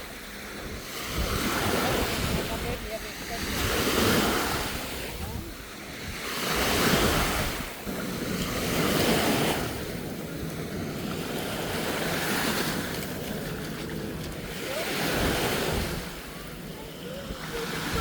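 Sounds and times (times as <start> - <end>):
ocean surf on sandy beach: 0.0 - 18.0
wind buffeting microphone: 0.0 - 18.0.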